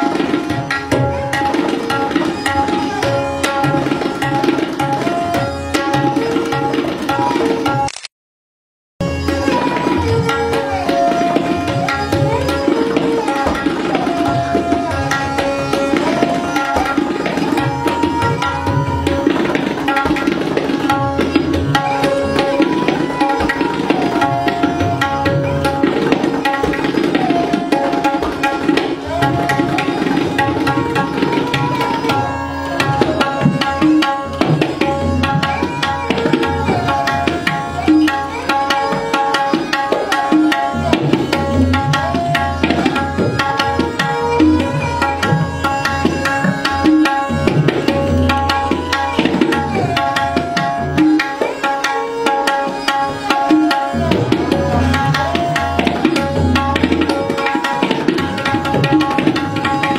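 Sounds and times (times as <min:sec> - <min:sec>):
tabla strokes: 0:00.0 - 0:07.9, 0:09.0 - 0:59.9.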